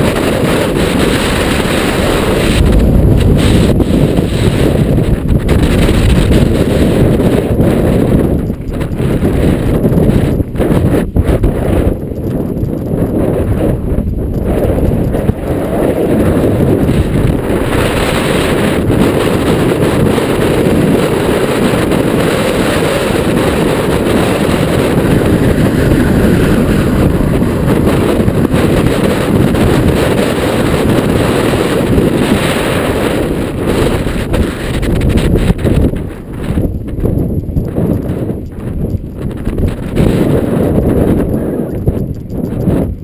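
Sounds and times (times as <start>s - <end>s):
tyre and trail clatter: 0.0s - 43.0s
wind buffeting microphone: 0.0s - 43.0s.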